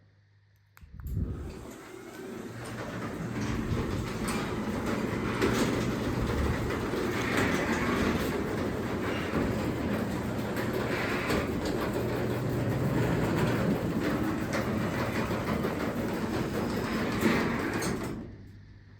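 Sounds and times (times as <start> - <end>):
garage door opener motor rumble: 1.1 - 18.8
door rollers rattling in track: 1.2 - 18.4.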